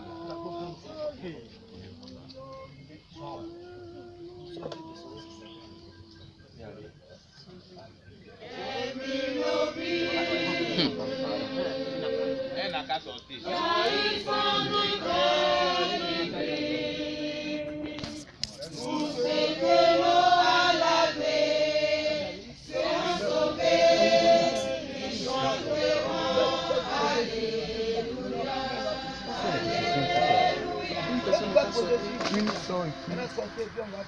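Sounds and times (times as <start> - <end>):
crowd singing unaccompanied: 0.0 - 6.8, 8.2 - 34.0.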